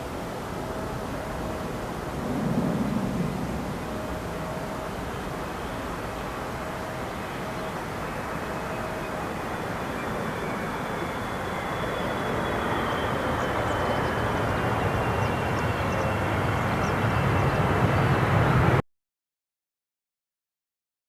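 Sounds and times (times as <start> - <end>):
high fan whine: 0.0 - 18.8
jet engines on approach: 0.0 - 18.8.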